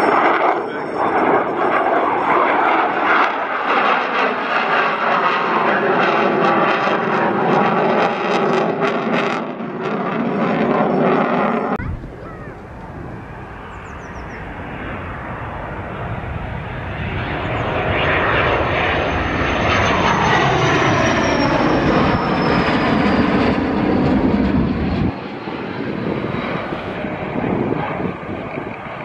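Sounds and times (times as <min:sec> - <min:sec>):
fighter jet roaring past: 0:00.0 - 0:29.0.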